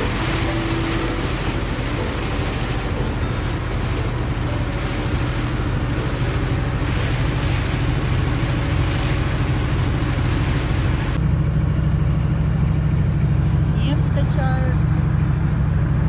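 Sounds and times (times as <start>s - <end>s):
engine hum and road noise: 0.0s - 16.0s.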